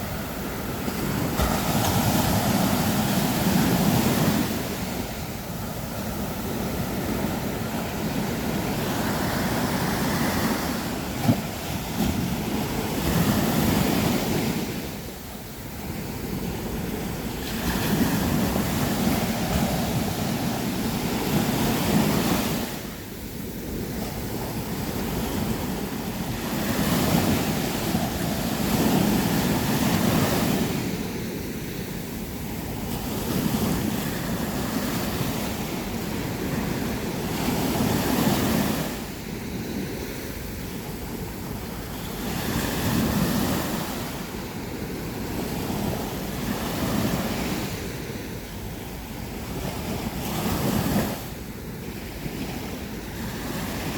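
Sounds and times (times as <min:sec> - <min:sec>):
waves breaking on beach: 0:00.0 - 0:53.9.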